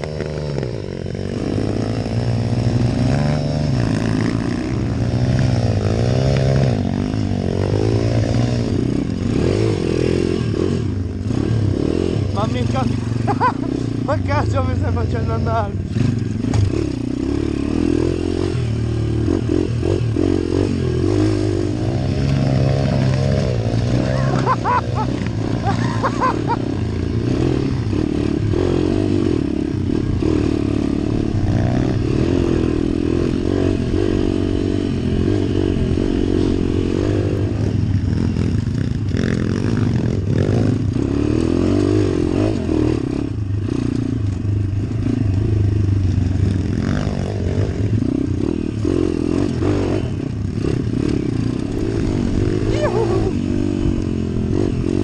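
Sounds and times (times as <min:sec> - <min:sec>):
bike rattling over rough trail: 0:00.0 - 0:55.0
motorbike engine revving: 0:00.0 - 0:55.0.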